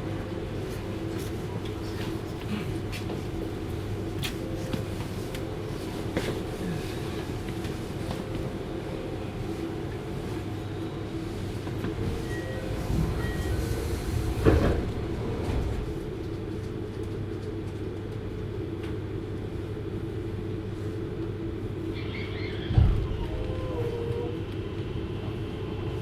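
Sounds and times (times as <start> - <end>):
electric train rolling and humming: 0.0 - 26.0.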